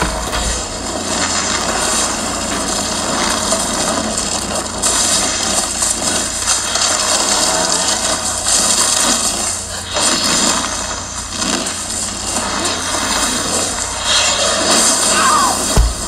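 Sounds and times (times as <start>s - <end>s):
large fire burning: 0.0s - 16.0s.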